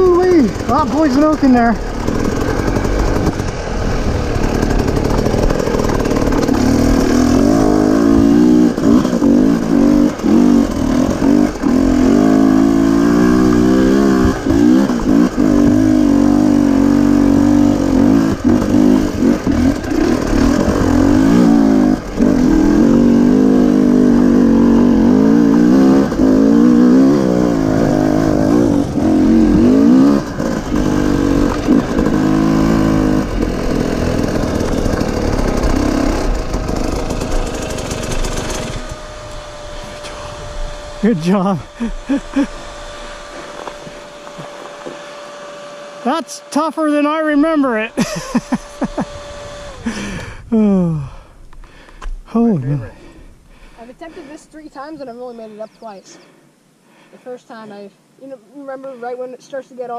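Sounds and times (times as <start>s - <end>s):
dirt bike engine revving: 0.0s - 56.3s.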